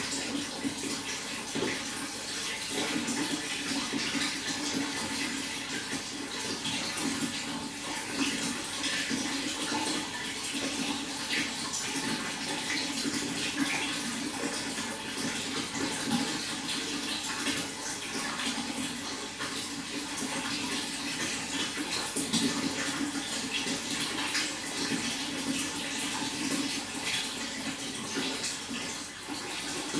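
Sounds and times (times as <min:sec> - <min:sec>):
running water gurgling: 0:00.0 - 0:29.9.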